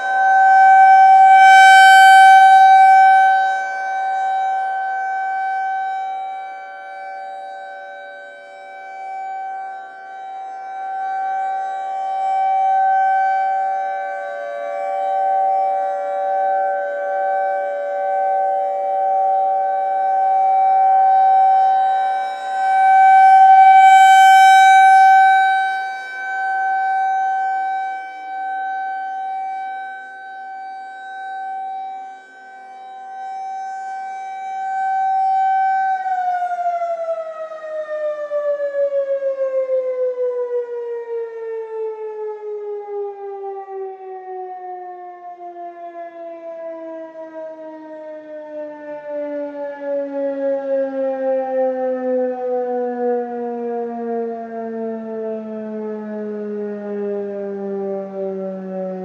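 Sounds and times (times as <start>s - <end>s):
distant siren winding down: 0.0s - 59.0s
rotating warning siren: 0.0s - 59.0s.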